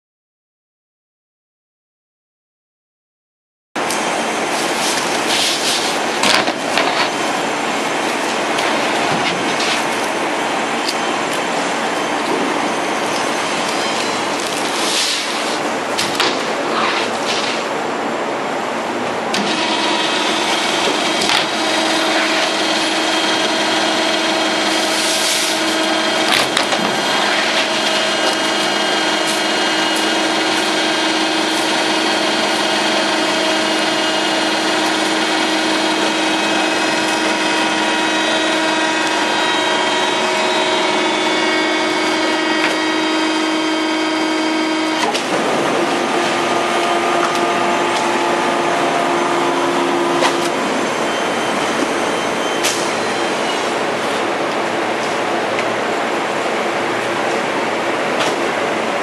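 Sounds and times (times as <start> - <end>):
factory noise: 3.8 - 59.0
press machinery humming: 3.8 - 59.0.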